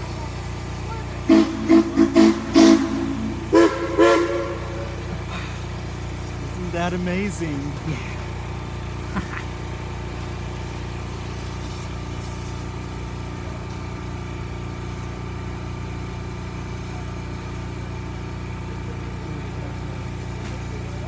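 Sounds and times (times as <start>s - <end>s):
moving train rumble: 0.0s - 21.0s.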